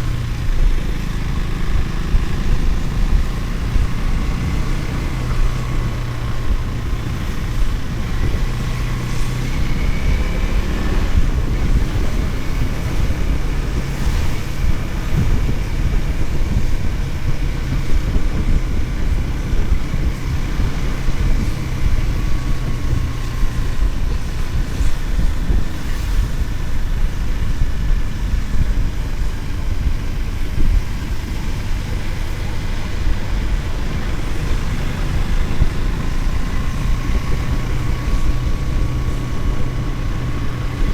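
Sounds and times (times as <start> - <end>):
motorcycle engine hum: 0.0 - 40.9
wind buffeting microphone: 0.0 - 40.9.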